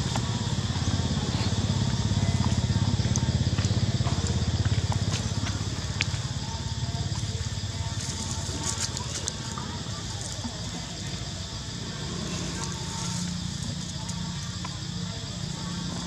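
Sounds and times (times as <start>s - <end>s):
small engine throbbing: 0.0s - 16.0s.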